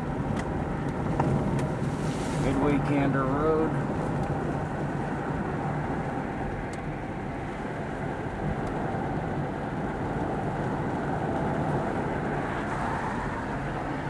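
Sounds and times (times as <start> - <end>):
vehicle rumble and road noise: 0.0 - 14.0.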